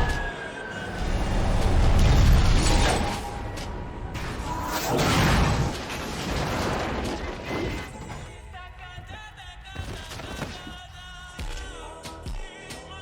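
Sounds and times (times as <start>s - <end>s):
debris crashing and clattering: 0.9s - 11.4s.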